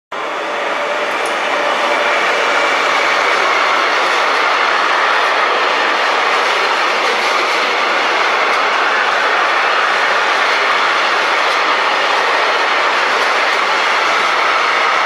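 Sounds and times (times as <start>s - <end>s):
train wheels rushing on rail: 0.1s - 15.0s.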